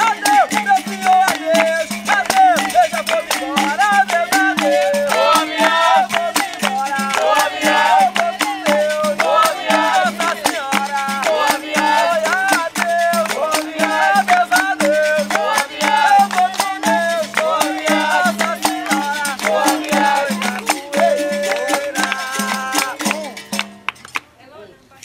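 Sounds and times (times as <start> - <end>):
group singing call-and-response: 0.0 - 23.8
hand clapping: 0.0 - 24.3
shaker rattling: 0.0 - 24.3.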